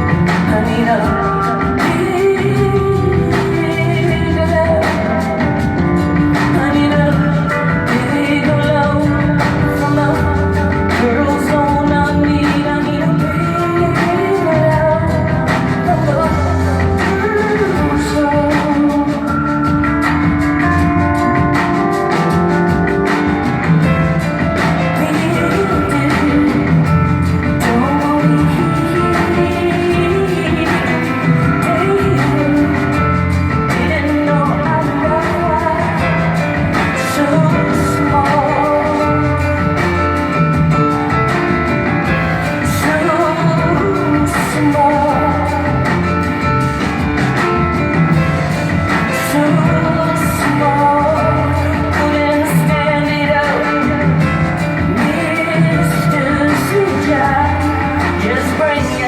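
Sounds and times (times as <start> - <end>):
bass notes: 0.0 - 59.0
live band playing: 0.0 - 59.0
woman singing: 0.0 - 59.0.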